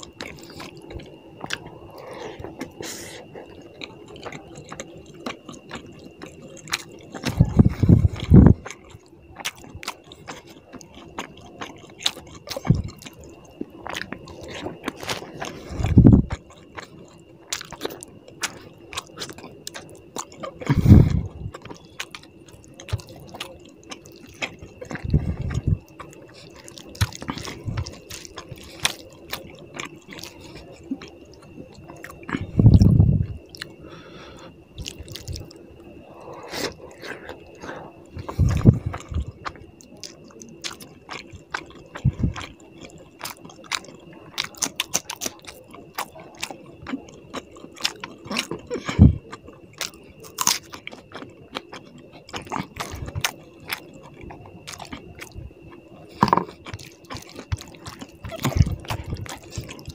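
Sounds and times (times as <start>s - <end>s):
wet chewing and lip smacking: 0.0s - 59.9s.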